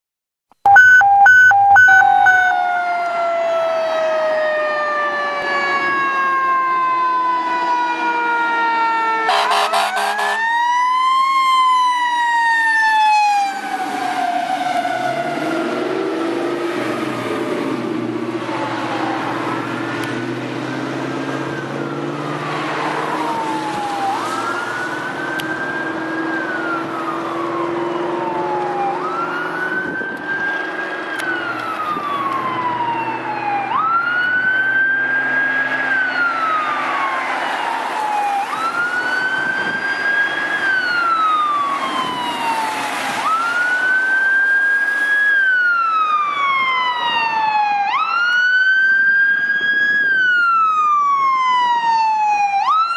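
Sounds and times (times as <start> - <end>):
electronic siren wailing: 0.7 - 20.4, 21.2 - 52.9.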